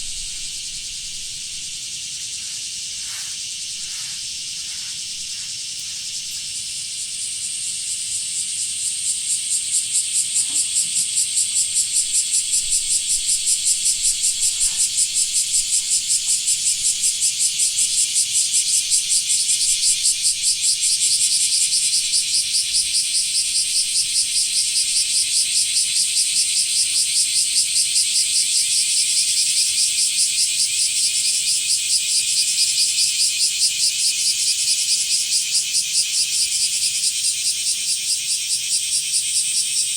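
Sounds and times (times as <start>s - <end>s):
cicada pulsing call: 0.0s - 39.9s.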